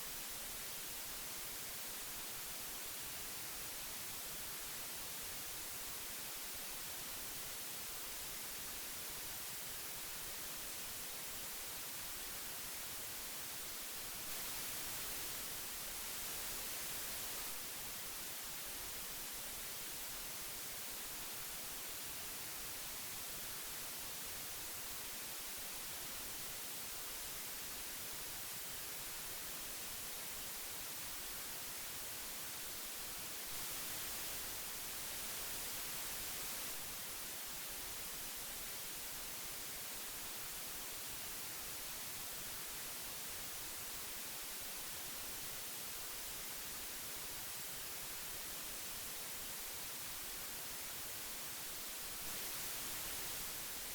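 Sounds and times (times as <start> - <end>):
magnetic tape hiss: 0.0 - 53.9.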